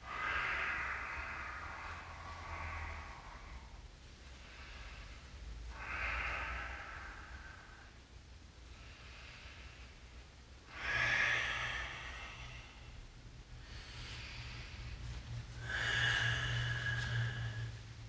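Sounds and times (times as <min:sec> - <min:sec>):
man breathing deeply: 0:00.0 - 0:18.0.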